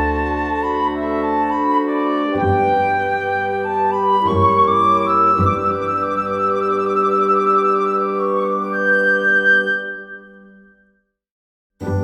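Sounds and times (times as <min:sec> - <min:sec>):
sustained woodwind-like chord: 0:00.0 - 0:10.5.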